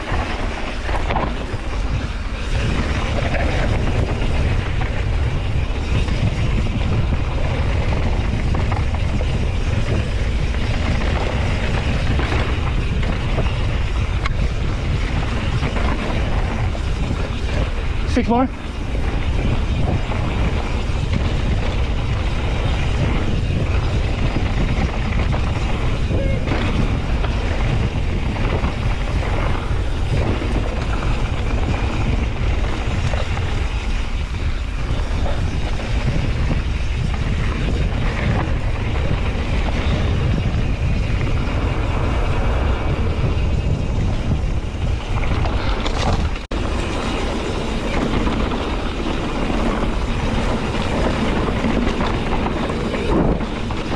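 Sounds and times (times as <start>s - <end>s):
bike tyre and trail noise: 0.0s - 53.9s
wind buffeting microphone: 0.0s - 53.9s.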